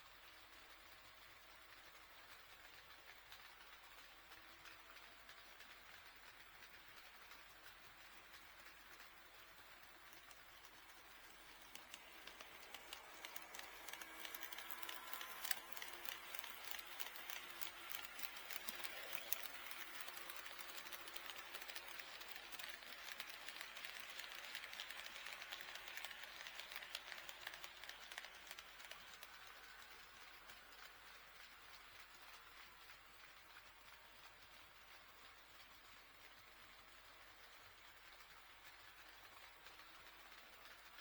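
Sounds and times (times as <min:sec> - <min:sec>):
model train wheel clicks: 0:00.0 - 0:41.0.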